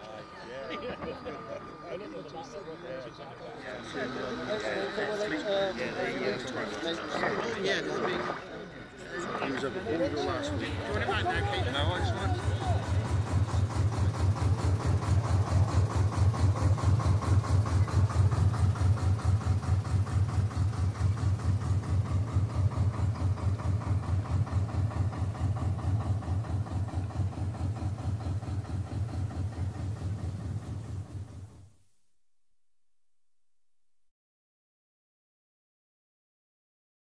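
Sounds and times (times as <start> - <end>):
engine running steadily: 0.0 - 31.8.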